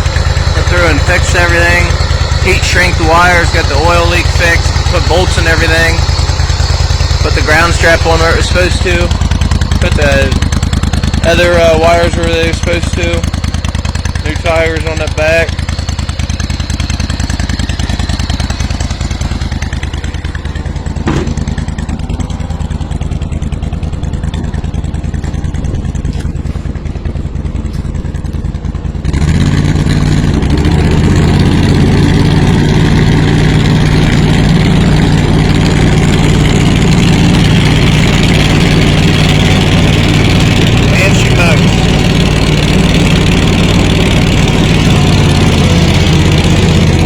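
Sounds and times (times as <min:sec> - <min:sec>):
mower engine running: 0:00.0 - 0:47.0.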